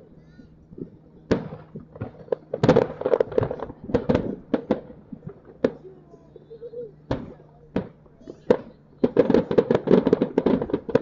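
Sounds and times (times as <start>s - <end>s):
fireworks bangs and crackles: 0.8s - 6.0s, 7.1s - 11.0s.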